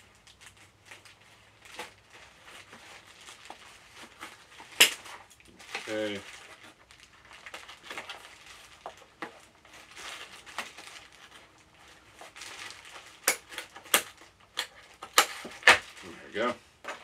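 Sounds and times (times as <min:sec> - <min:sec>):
plastic and cardboard rustling: 0:00.0 - 0:17.0.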